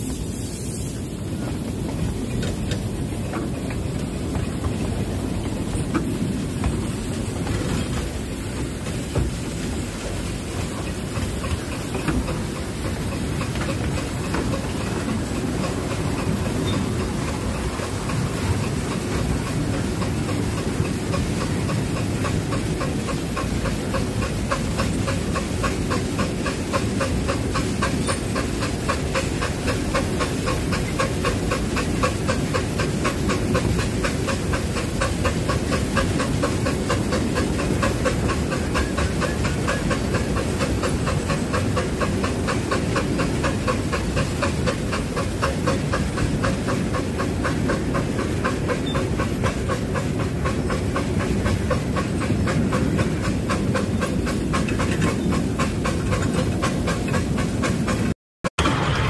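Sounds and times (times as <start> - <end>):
hissing steam: 0.0 - 58.1
steam locomotive chuffing: 0.0 - 59.0
carriage wheels rumbling on track: 1.2 - 59.0.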